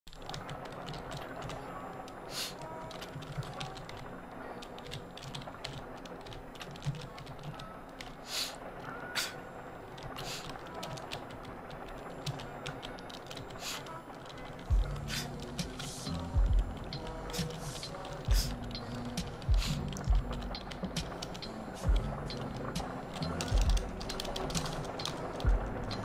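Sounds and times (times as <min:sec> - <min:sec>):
computer keyboard typing: 0:00.1 - 0:08.6, 0:09.2 - 0:26.0.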